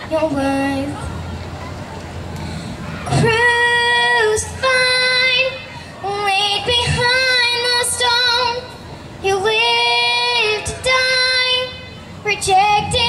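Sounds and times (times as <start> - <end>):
girl singing gospel song: 0.0 - 1.0, 3.1 - 13.0.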